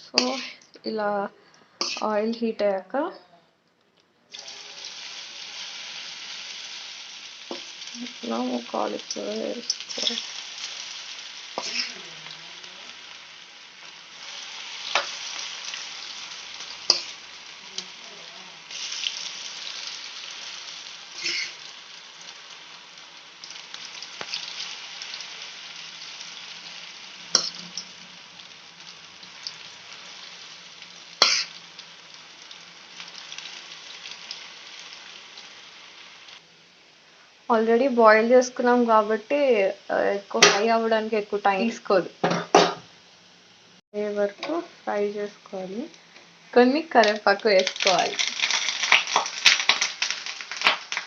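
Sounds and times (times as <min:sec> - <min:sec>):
food deep-frying in hot oil: 0:04.3 - 0:37.0, 0:37.6 - 0:51.0.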